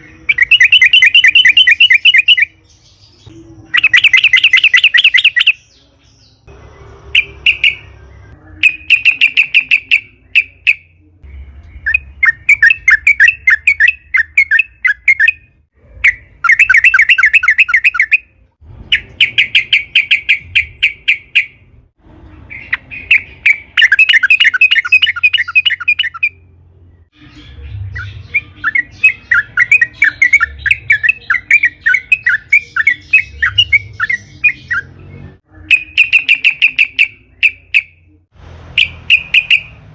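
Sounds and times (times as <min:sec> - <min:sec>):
bulbul chattering song: 0:00.0 - 0:21.8, 0:22.4 - 0:39.9.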